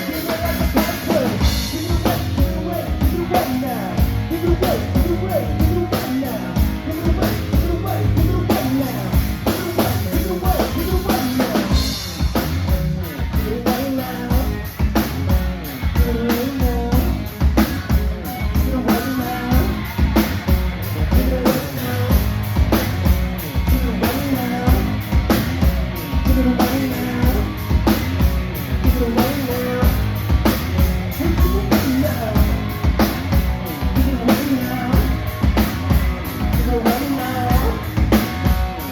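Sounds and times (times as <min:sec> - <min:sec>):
bass drum and rimshots: 0:00.0 - 0:38.9
live band playing: 0:00.0 - 0:38.9.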